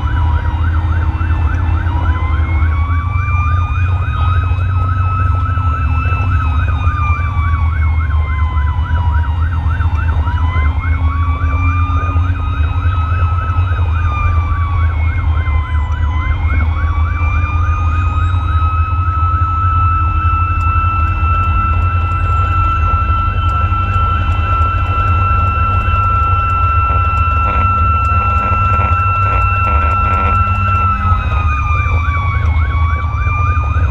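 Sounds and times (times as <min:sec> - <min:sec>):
siren wail: 0:00.0 - 0:33.9
siren yelp: 0:00.0 - 0:33.9
truck engine and road noise: 0:00.0 - 0:33.9.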